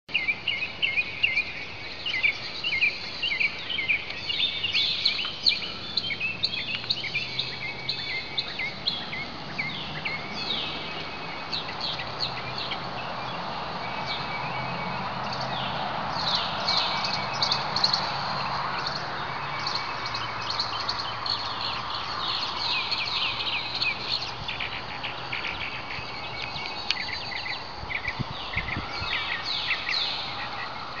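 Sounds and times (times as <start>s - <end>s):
birds chirping: 0.1s - 31.0s.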